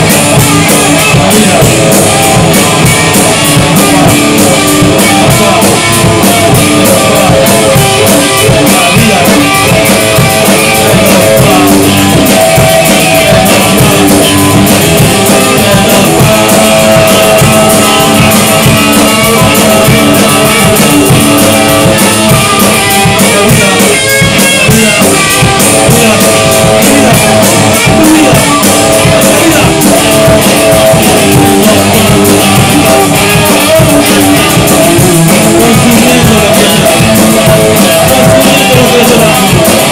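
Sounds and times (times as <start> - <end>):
rock band song: 0.0 - 39.9.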